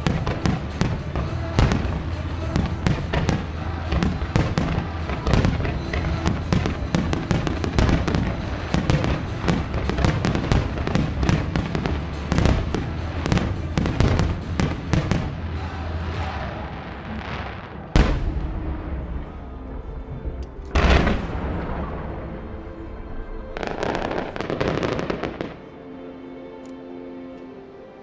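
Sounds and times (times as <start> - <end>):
fireworks bursting and crackling: 0.0 - 19.4, 20.7 - 22.5, 23.6 - 25.6
show soundtrack music: 0.0 - 28.0.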